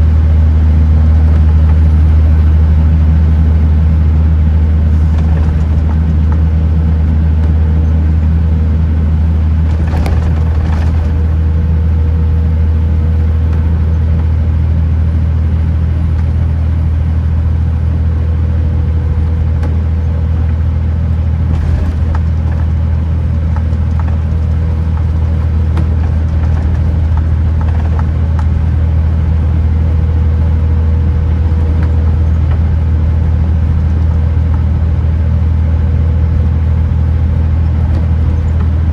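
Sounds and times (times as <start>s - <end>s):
faint constant whine: 0.0s - 38.9s
truck engine droning: 0.0s - 38.9s.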